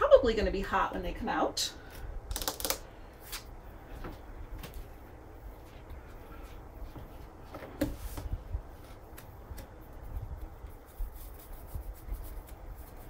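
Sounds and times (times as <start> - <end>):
faint rustling and handling: 1.9 - 13.0.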